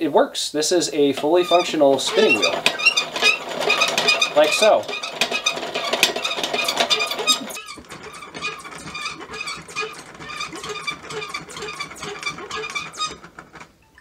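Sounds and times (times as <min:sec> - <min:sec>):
treadle spinning wheel squeaking: 0:01.0 - 0:14.0.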